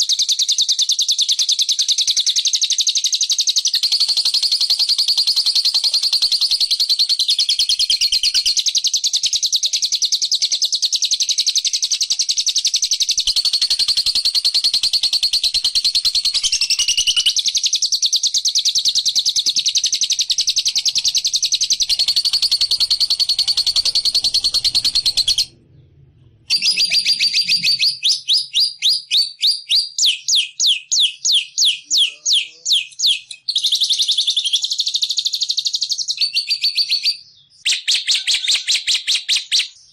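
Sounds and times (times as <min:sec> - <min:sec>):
songbird chattering and trilling: 0:00.0 - 0:25.6, 0:26.5 - 0:39.9.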